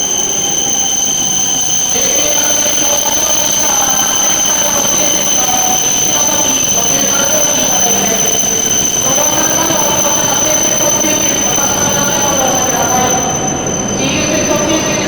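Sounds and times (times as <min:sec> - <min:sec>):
high-pitched hum: 0:00.0 - 0:15.0
train moving at low speed: 0:00.0 - 0:15.0
train wheel squeal: 0:00.0 - 0:15.0.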